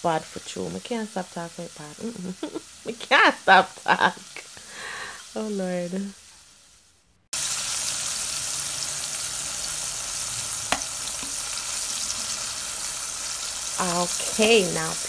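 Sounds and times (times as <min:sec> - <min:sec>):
liver frying in hot oil: 0:00.0 - 0:15.0.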